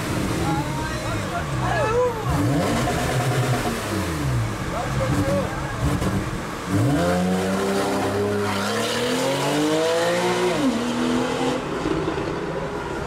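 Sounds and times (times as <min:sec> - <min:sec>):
car engine accelerating hard: 0:00.0 - 0:12.4.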